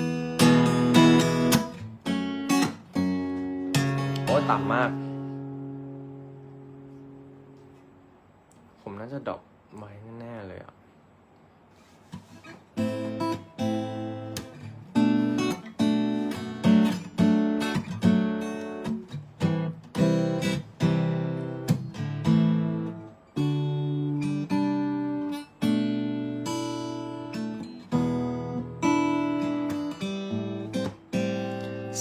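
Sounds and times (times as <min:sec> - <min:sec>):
acoustic guitar strumming: 0:00.0 - 0:08.3, 0:11.7 - 0:32.0.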